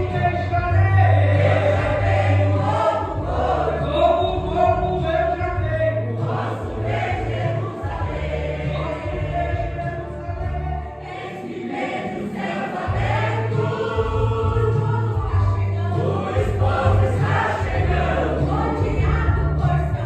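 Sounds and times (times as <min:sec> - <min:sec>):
low sustained bass notes: 0:00.0 - 0:11.0, 0:12.9 - 0:20.0
gospel choir singing: 0:00.0 - 0:20.0.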